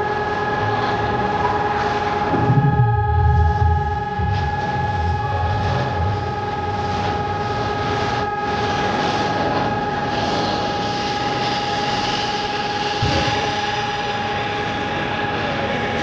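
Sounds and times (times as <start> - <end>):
rushing background noise: 0.0 - 10.0, 10.7 - 16.0
air-raid siren steady tone: 0.0 - 16.0.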